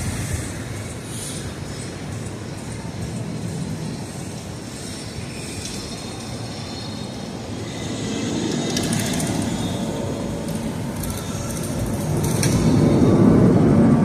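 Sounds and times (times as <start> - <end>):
low noisy rumble: 0.0 - 14.0.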